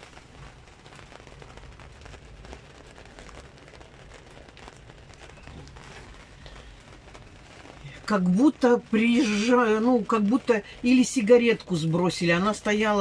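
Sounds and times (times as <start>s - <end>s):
heavy rain on canopy roof: 0.0s - 13.0s.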